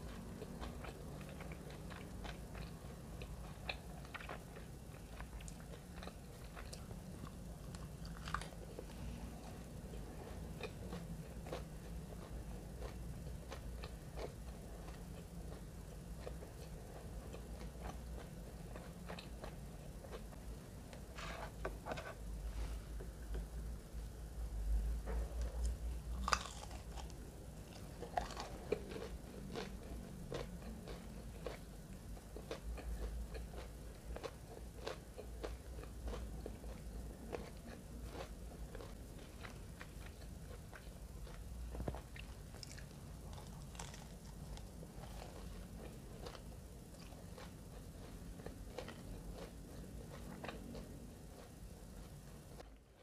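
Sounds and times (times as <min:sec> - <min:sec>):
crisp fried fish being chewed: 0:00.0 - 0:20.4, 0:25.4 - 0:52.9.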